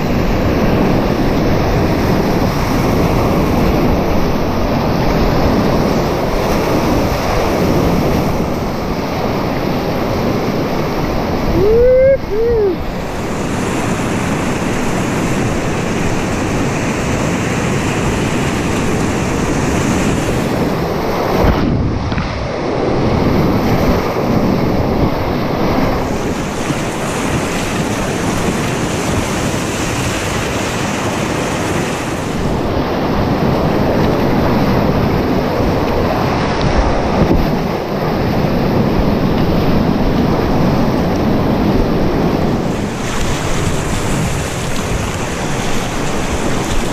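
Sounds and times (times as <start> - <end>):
whitewater rapids rushing: 0.0 - 46.9.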